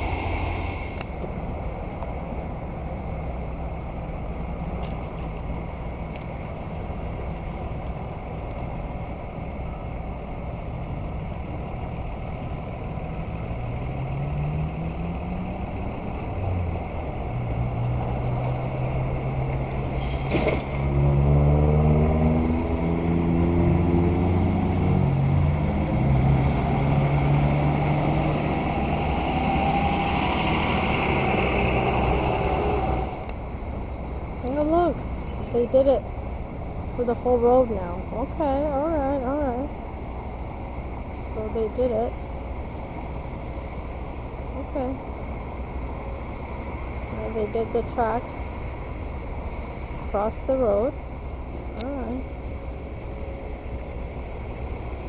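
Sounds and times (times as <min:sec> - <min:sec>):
heavy vehicle engine pulling away: 0:00.0 - 0:55.0
street traffic: 0:00.0 - 0:55.0.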